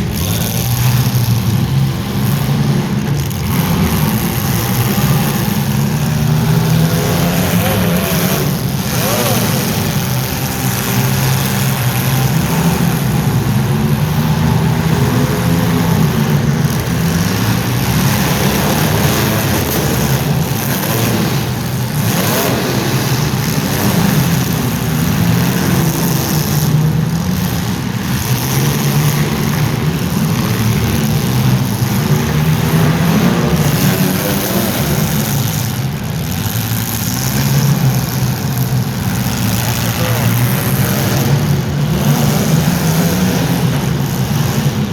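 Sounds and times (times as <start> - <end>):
car engines revving hard: 0.0 - 44.9.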